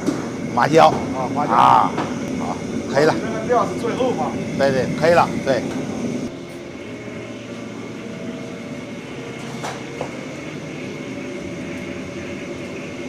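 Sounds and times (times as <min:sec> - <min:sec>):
kitchen machinery humming: 0:00.0 - 0:13.0.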